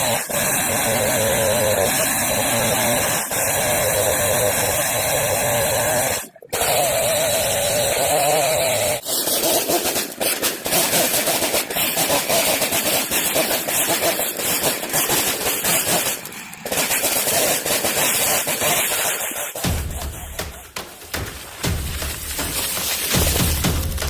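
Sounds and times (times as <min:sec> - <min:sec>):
chainsaw cutting log: 0:00.0 - 0:24.0.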